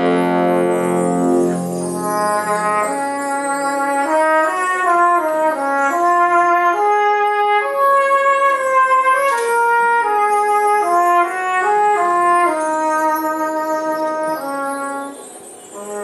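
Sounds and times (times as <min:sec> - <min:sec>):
brass band playing chords: 0:00.0 - 0:16.0.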